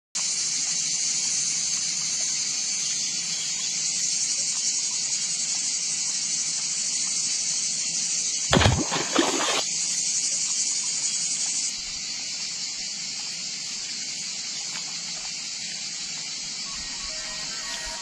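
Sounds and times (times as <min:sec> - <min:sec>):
high-pitched hiss: 0:00.2 - 0:18.0.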